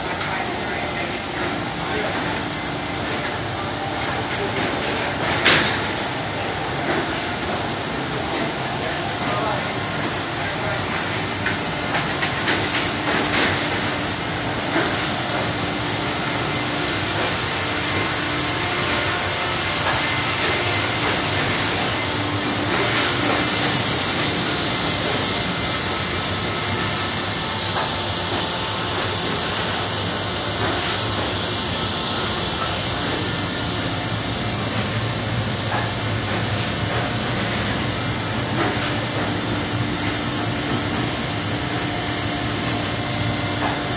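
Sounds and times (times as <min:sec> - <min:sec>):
printing machinery whirring: 0:00.0 - 0:43.9.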